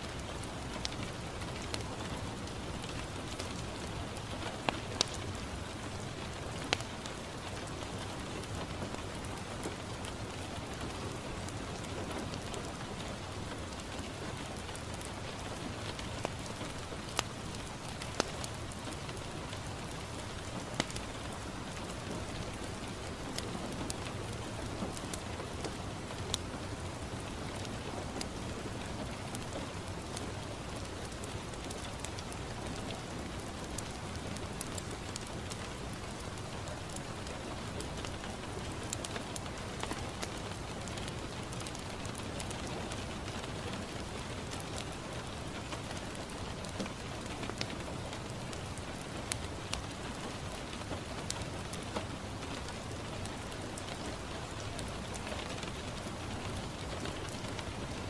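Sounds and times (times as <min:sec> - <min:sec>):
rain on a window: 0:00.0 - 0:58.0
wood fire crackling: 0:00.0 - 0:58.0.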